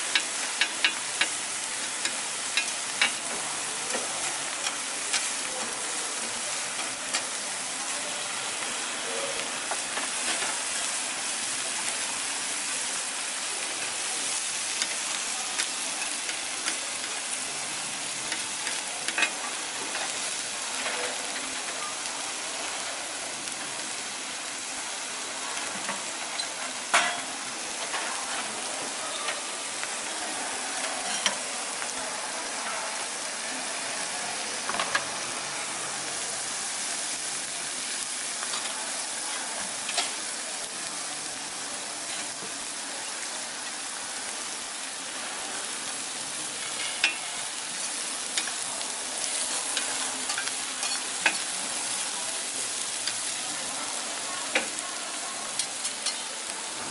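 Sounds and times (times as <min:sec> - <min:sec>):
meat sizzling on a griddle: 0:00.0 - 0:56.9.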